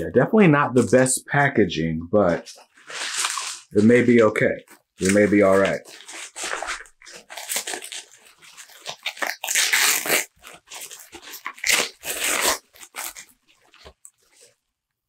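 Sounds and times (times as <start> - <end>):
plastic packaging crinkling: 2.5 - 14.6.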